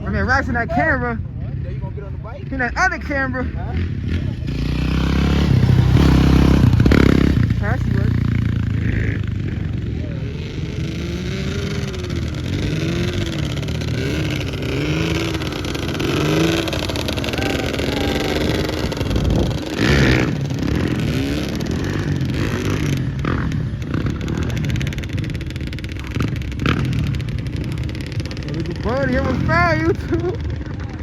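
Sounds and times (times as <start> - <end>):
off-road bike engine revving: 0.0 - 31.0.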